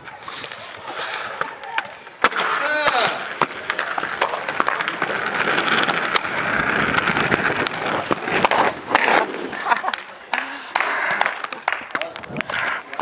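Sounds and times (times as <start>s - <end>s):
skate wheels rolling on concrete: 0.0s - 13.0s.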